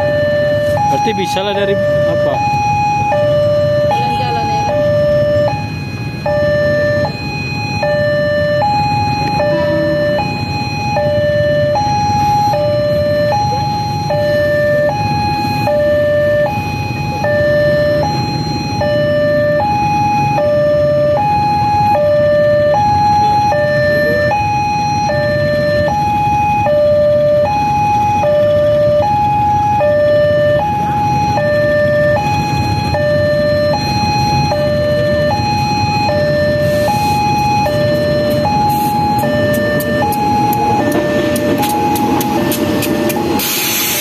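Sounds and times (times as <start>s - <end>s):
two-tone level crossing alarm: 0.0s - 44.0s.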